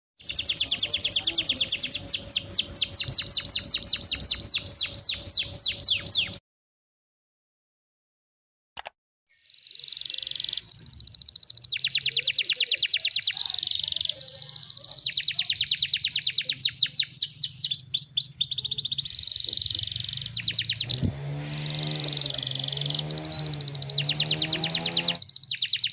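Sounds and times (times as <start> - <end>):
canary singing fast trills: 0.2 - 6.4, 9.3 - 25.9.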